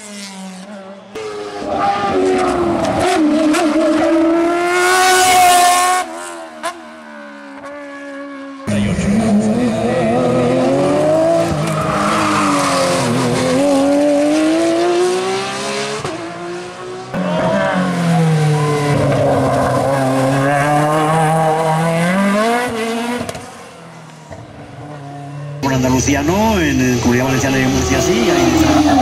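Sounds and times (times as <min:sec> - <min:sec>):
race car engines at full throttle: 0:00.0 - 0:29.0.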